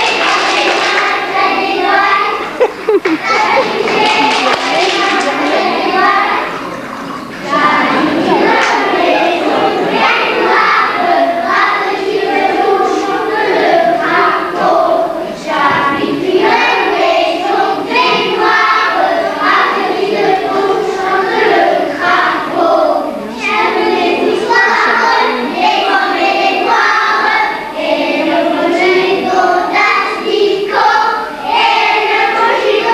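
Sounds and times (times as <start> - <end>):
children singing together: 0.0 - 32.9.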